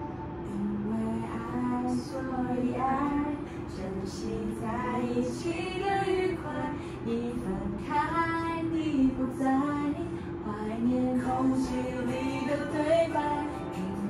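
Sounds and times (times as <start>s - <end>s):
woman singing: 0.4s - 14.0s.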